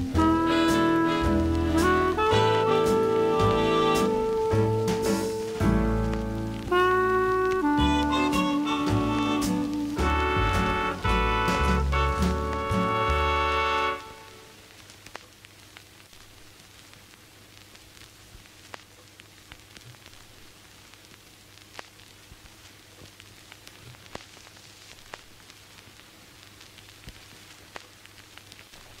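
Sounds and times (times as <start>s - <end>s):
low static hiss: 0.0s - 29.0s
clicks and crackles: 0.8s - 10.0s, 10.9s - 29.0s.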